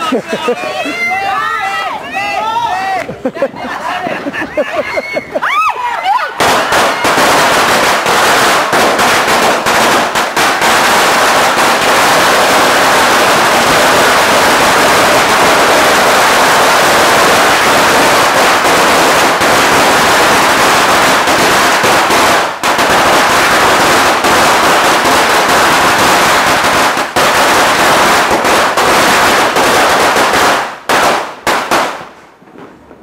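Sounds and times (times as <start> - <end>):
firecrackers banging: 6.4 - 33.0.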